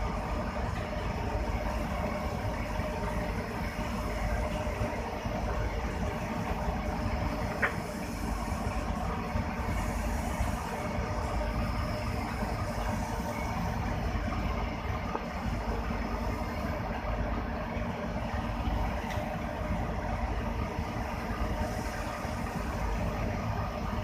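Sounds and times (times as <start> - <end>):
diesel locomotive engine idling: 0.0 - 24.0.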